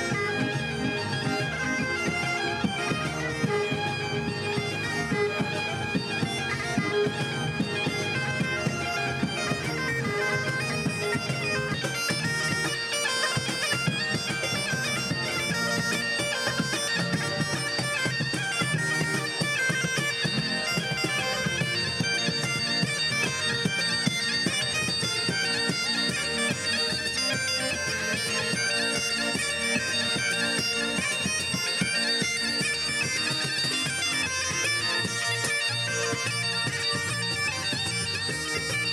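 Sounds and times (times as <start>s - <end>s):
bagpipes playing: 0.0s - 38.9s
lower accompaniment: 0.0s - 38.9s.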